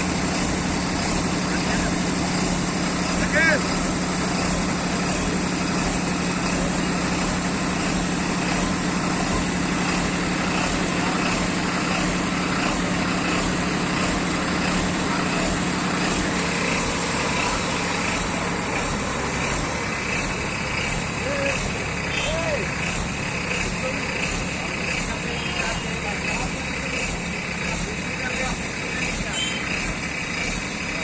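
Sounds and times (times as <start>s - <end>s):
machinery engine humming: 0.0s - 31.0s.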